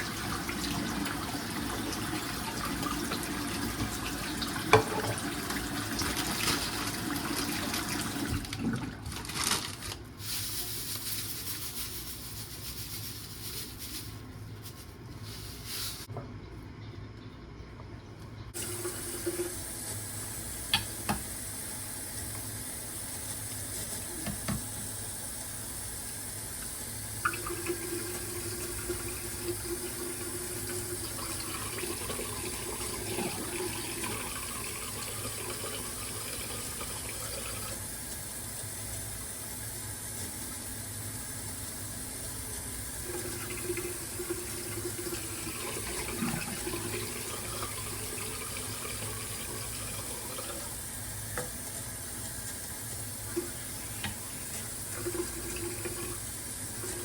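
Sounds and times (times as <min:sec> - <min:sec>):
tap water running into sink: 0:00.0 - 0:09.6, 0:18.6 - 0:40.8, 0:41.5 - 0:57.0.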